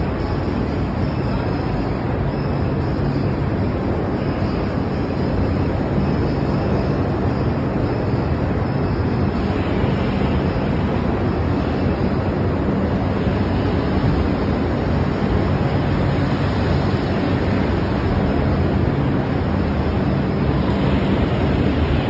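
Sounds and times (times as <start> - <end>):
low even hum: 0.0 - 22.0
machinery and ventilation noise: 0.0 - 22.0.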